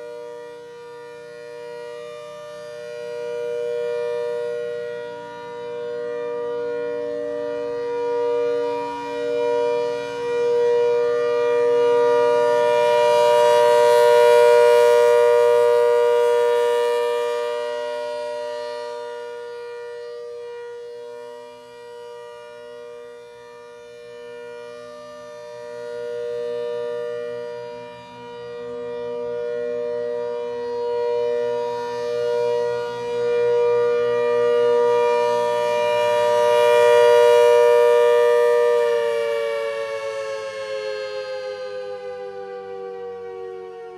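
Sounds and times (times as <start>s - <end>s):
rotating warning siren steady tone: 0.0s - 43.9s.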